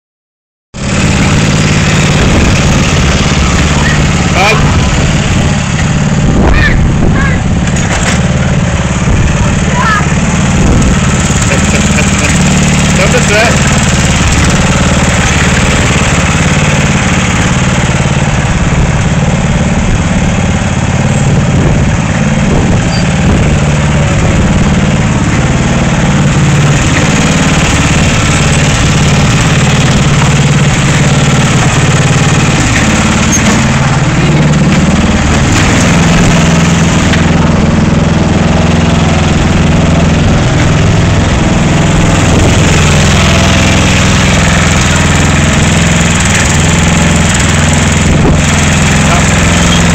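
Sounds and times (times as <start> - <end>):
ride-on lawnmower engine running: 0.8 - 49.9.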